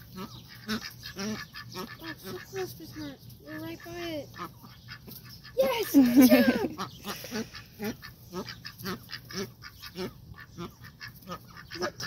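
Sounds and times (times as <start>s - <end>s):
duck quacking: 0.0s - 12.0s.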